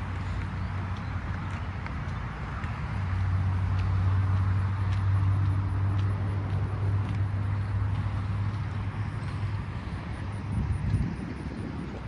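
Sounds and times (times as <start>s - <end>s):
footsteps on pavement: 0.0s - 12.0s.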